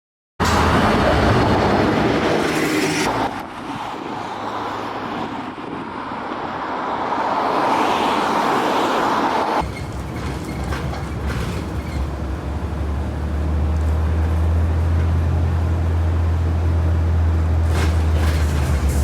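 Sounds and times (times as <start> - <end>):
rail vehicle rumbling on tracks: 0.4 - 6.7, 9.1 - 19.0.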